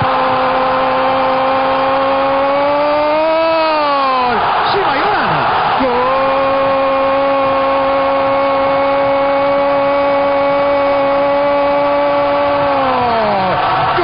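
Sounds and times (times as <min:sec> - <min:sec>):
commentator shouting goal: 0:00.0 - 0:14.0
stadium crowd noise: 0:00.0 - 0:14.0.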